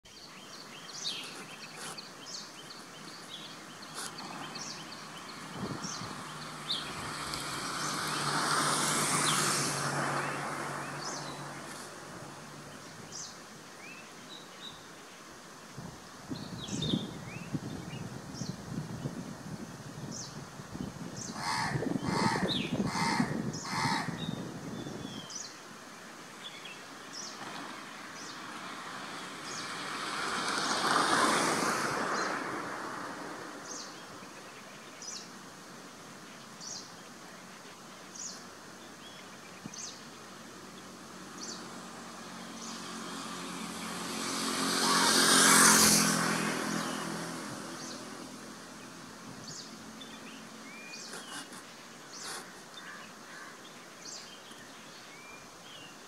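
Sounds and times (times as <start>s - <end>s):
small birds twittering: 0.1s - 19.2s, 20.0s - 31.4s, 33.6s - 56.0s
vehicles passing by: 0.1s - 56.0s.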